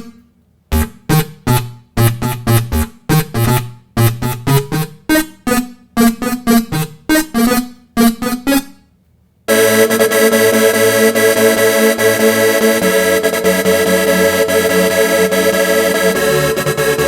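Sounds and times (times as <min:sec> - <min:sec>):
clipped keyboard chords: 0:00.0 - 0:08.8, 0:09.5 - 0:17.0
r and b track with sustained keyboard: 0:00.0 - 0:08.8, 0:09.5 - 0:17.0.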